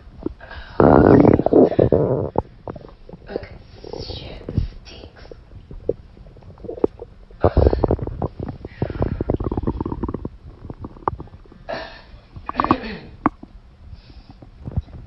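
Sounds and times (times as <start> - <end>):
stomach growling and gurgling: 0.0 - 13.6, 14.3 - 15.0.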